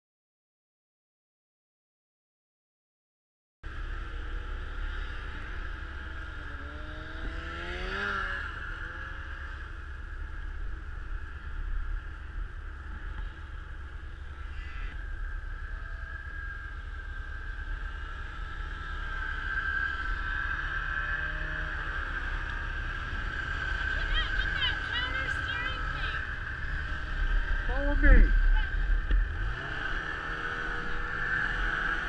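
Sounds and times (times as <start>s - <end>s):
snowmobile engine whine: 3.7s - 32.0s.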